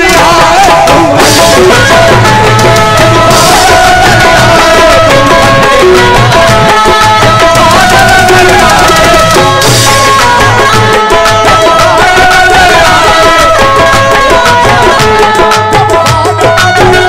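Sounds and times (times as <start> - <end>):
harmonium melody: 0.0 - 17.0
tabla rhythm: 0.0 - 17.0.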